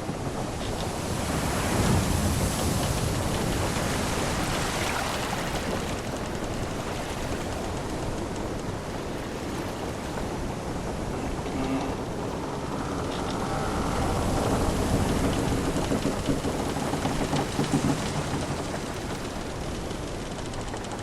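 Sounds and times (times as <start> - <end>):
sea washing against ship: 0.0 - 21.0
ship timbers creaking: 0.0 - 21.0.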